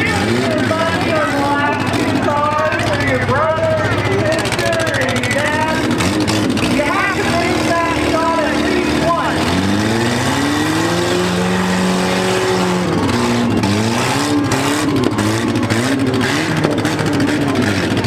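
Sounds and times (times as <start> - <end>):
small car engines revving: 0.0 - 18.0.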